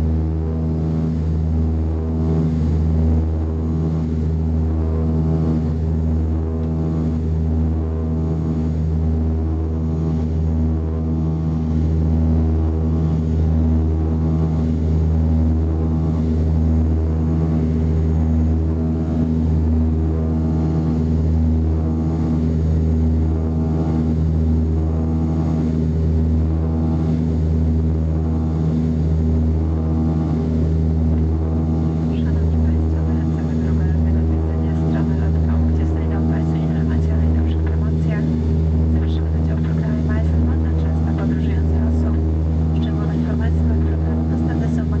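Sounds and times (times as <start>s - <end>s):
turboprop cabin drone: 0.0s - 45.0s.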